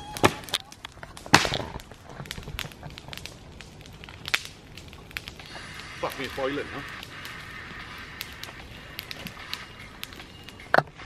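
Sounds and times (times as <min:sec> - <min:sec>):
campfire crackling: 0:00.0 - 0:11.0
fire popping: 0:00.0 - 0:11.0.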